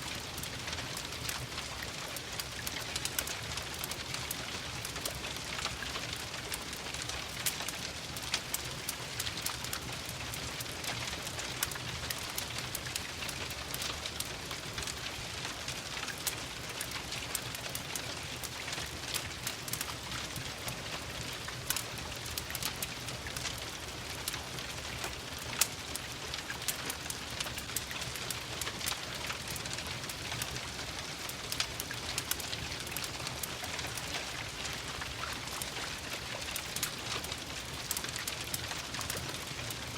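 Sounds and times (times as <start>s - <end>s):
steady rain: 0.0s - 39.9s
wood fire crackling: 0.1s - 39.9s.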